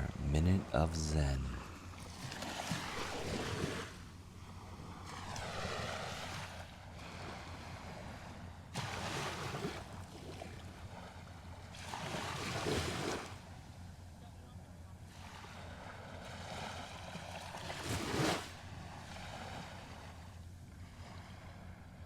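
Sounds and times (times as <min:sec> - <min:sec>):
small waves breaking on sand: 0:01.1 - 0:13.5, 0:15.1 - 0:22.0.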